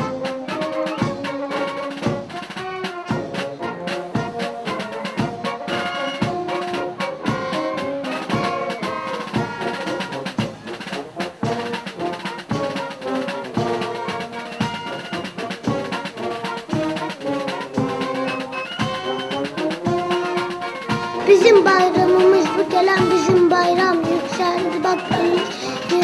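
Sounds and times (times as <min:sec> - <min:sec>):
steady drum beat: 0:00.0 - 0:26.0.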